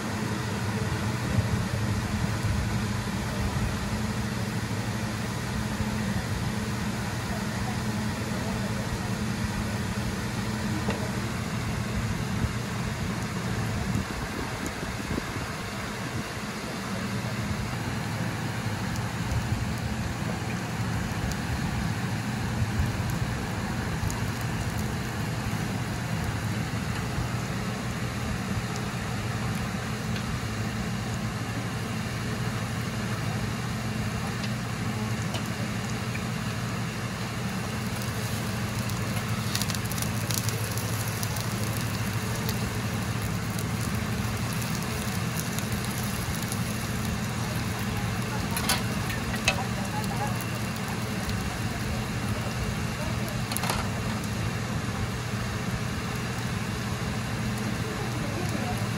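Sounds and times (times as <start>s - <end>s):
oil crackling: 3.7s - 58.9s
pancake sizzling in oil: 4.0s - 58.9s.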